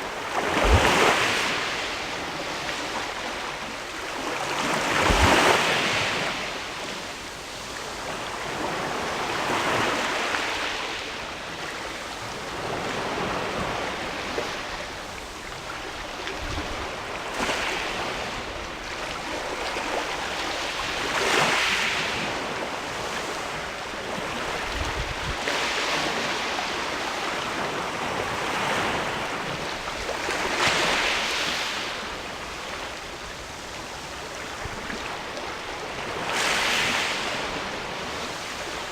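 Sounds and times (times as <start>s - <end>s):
sea waves washing against rocks: 0.0s - 6.8s, 12.4s - 38.9s.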